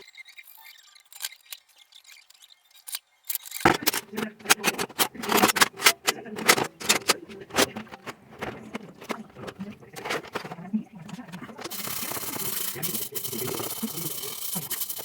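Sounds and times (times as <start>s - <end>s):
hands scratching and clicking small parts: 0.0s - 15.0s.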